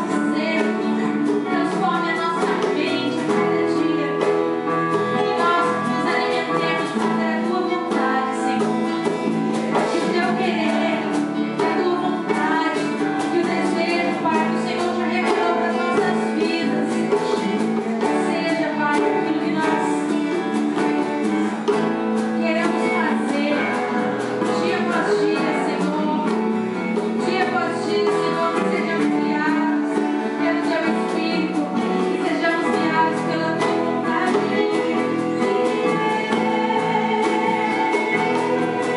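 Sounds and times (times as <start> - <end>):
woman singing: 0.0 - 38.9.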